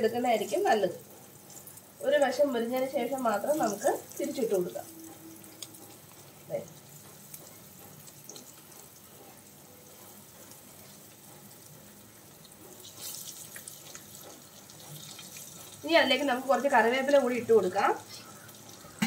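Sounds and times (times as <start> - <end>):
eggs sizzling in oil: 0.0 - 19.0.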